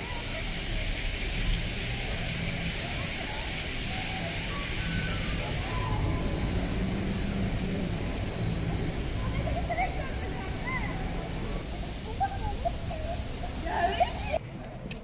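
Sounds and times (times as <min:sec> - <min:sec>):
faint distant voices: 0:00.0 - 0:15.0
street hiss: 0:00.0 - 0:15.0
traffic rumble: 0:00.0 - 0:15.0.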